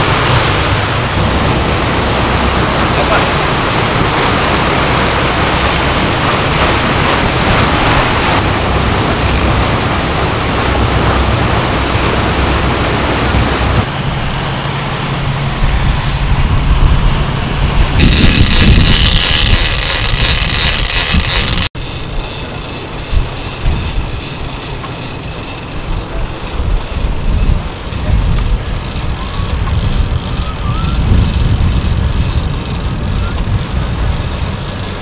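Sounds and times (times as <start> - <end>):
boat engine droning: 0.0 - 35.0
wake water rushing: 0.0 - 35.0
wind: 0.0 - 35.0.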